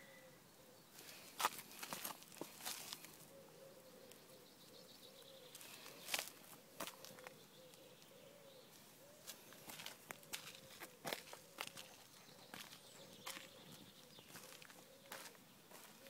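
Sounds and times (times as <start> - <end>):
faint bird calls: 0.0 - 16.0.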